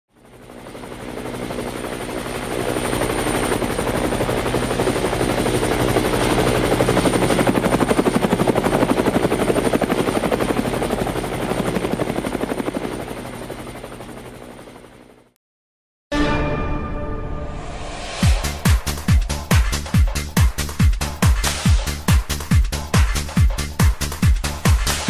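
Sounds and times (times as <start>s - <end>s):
helicopter rotors whirring: 0.1s - 15.4s, 18.2s - 25.0s.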